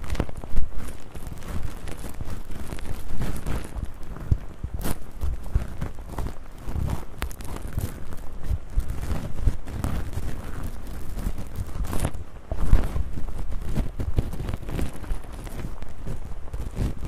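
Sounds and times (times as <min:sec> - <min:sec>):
fizzy crackling and scratching: 0:00.0 - 0:17.0.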